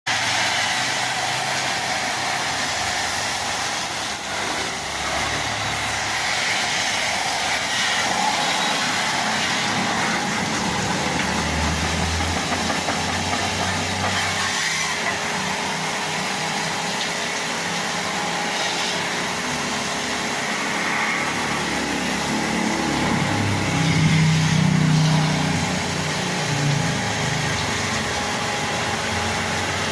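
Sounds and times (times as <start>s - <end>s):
pressure washer motor humming: 0.1s - 29.9s
water spraying hiss: 0.1s - 29.9s.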